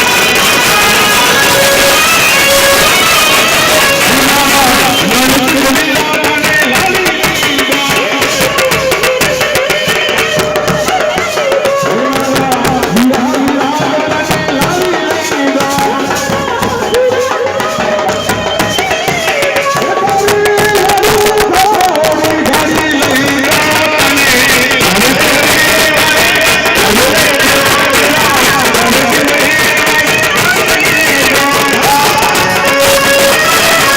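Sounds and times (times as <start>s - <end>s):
fast drumming: 0.0s - 33.9s.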